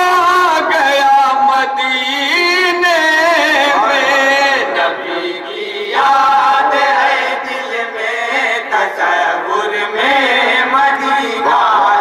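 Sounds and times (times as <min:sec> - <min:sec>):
men chanting in unison: 0:00.0 - 0:12.0.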